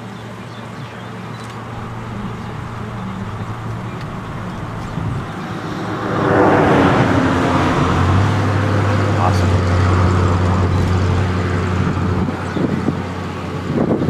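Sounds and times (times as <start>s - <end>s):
tyre and road noise: 0.0s - 14.0s
vehicle engine humming: 0.0s - 14.0s.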